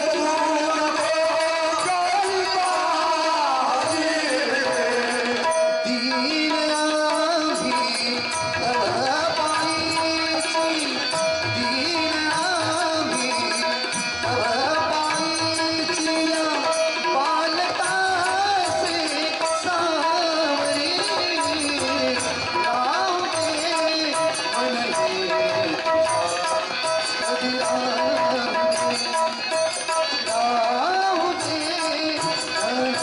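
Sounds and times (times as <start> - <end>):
harmonium: 0.0 - 33.0
man singing devotional song: 0.0 - 33.0
tabla drumming: 0.0 - 33.0.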